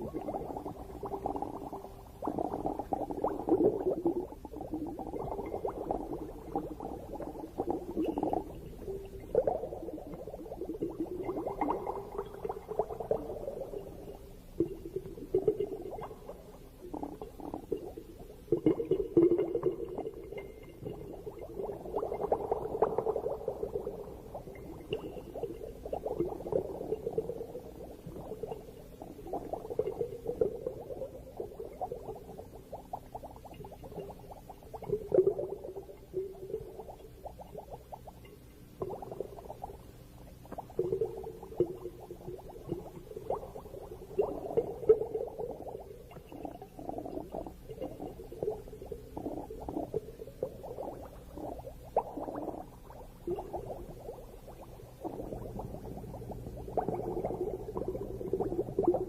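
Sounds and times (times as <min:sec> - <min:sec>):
low steady murmur: 0:00.0 - 0:59.0
underwater bubbles gurgling: 0:00.0 - 0:59.0.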